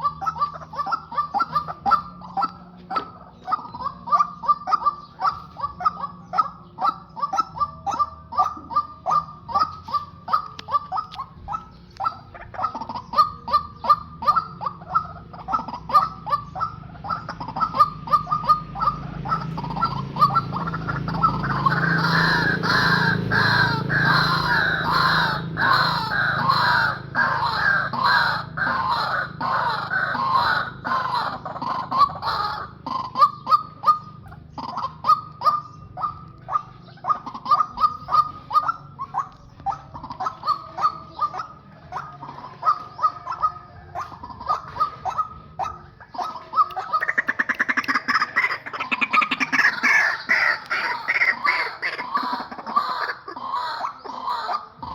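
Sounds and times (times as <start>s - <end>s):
waterhens calling: 0.0s - 54.9s.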